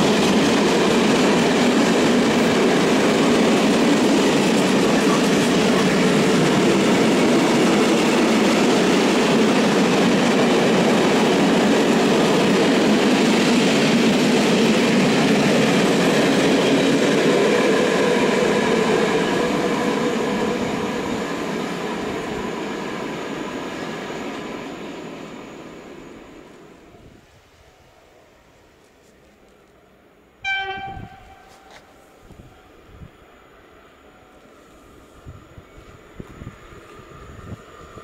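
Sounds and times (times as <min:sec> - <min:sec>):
freight train rolling past: 0:00.0 - 0:28.7, 0:29.8 - 0:38.0.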